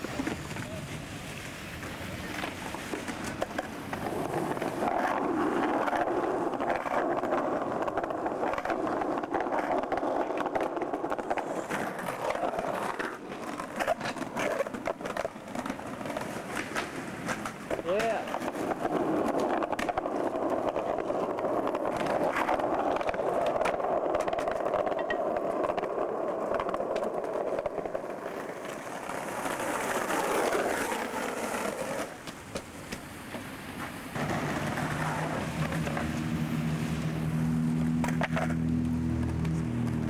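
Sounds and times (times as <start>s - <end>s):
skateboard wheels rolling on paving: 0.0s - 40.0s.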